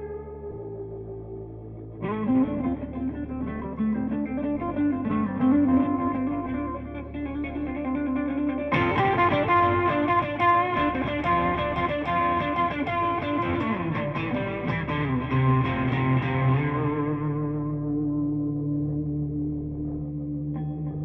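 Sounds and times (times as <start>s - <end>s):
guitar plucked notes with effects: 0.0s - 21.0s.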